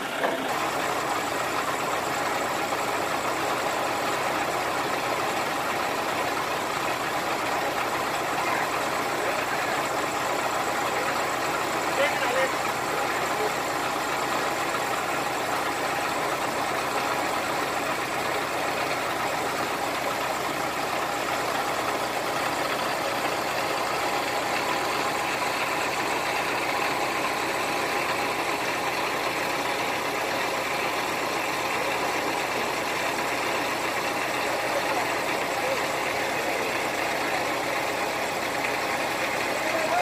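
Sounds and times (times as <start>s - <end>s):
crane engine running: 0.0s - 40.0s.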